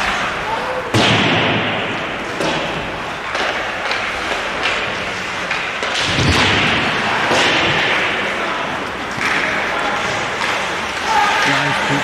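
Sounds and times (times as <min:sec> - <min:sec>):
sharp knocks of sticks and puck: 0:00.9 - 0:08.3, 0:09.1 - 0:11.9.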